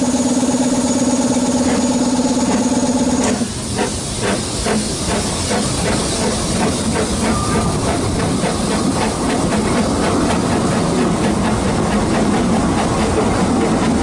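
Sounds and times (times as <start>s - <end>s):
rumble of carriage: 0.0s - 14.0s
steady hiss of steam: 0.0s - 14.0s
steam locomotive exhaust chuffs: 0.0s - 14.0s.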